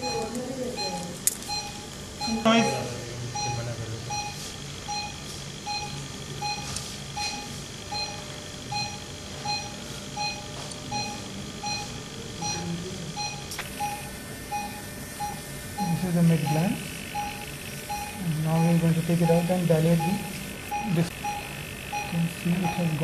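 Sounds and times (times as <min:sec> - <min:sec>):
patient monitor beeping: 0:00.0 - 0:23.0.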